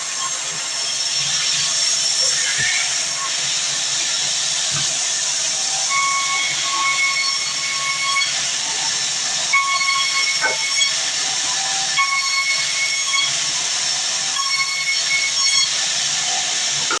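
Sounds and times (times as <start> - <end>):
saw cutting through log: 0.0 - 17.0.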